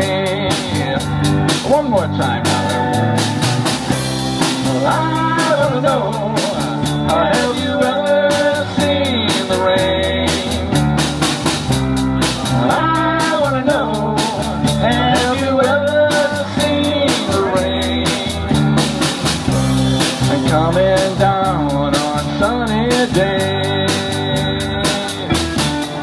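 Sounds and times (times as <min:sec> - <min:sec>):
bending lead melody: 0:00.0 - 0:26.0
drum kit beat: 0:00.0 - 0:26.0
held bass notes: 0:00.0 - 0:26.0.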